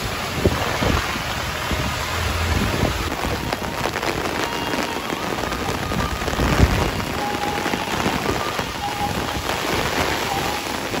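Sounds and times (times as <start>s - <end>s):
heavy rain on wet road: 0.0s - 11.0s.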